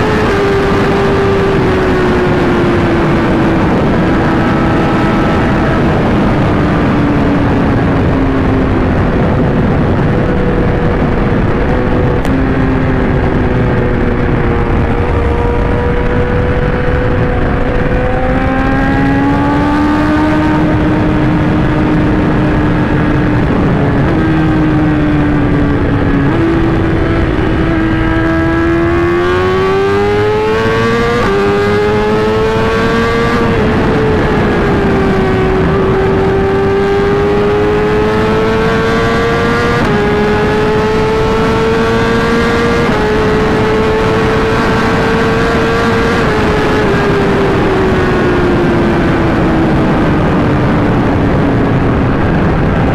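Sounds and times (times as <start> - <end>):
motorcycle engine revving: 0.0 - 52.9
wind and road noise: 0.0 - 52.9.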